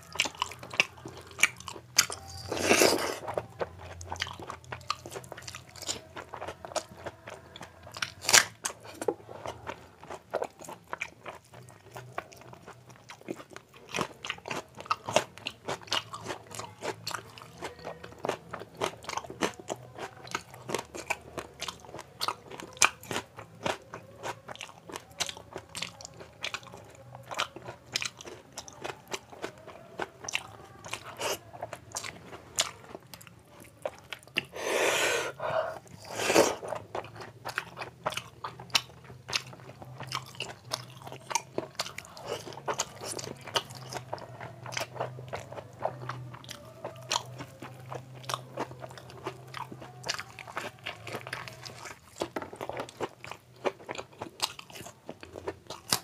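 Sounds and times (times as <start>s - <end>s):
person chewing and crunching food: 0.0s - 56.0s.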